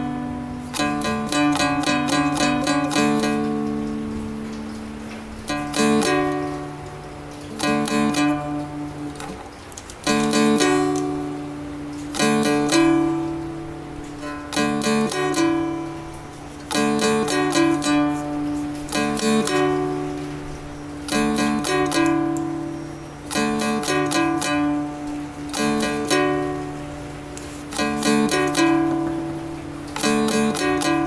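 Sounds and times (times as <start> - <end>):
dulcimer melody over a drone: 0.0 - 31.0.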